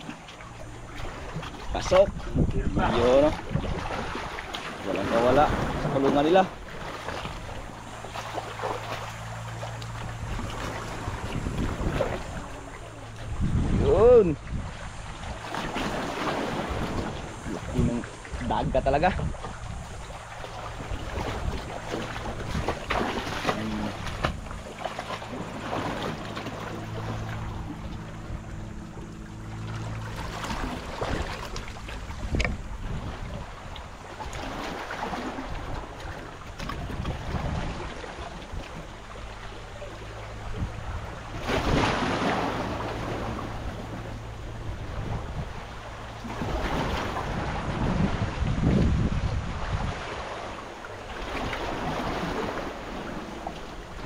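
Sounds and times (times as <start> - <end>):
small boat engine running: 0.0 - 54.0
waves washing: 0.0 - 54.0
wind on microphone: 0.0 - 54.0.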